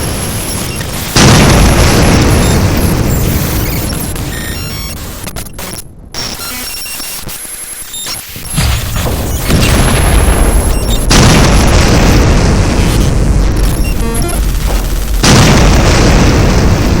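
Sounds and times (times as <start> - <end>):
booming rumbling noise: 0.0 - 5.3, 8.4 - 17.0.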